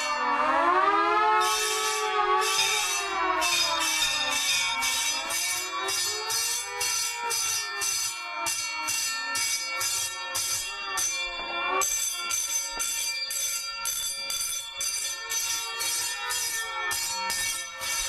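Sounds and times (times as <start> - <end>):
rising and falling siren: 0.0 - 12.3, 15.2 - 18.0
fire alarm bells: 0.0 - 18.0.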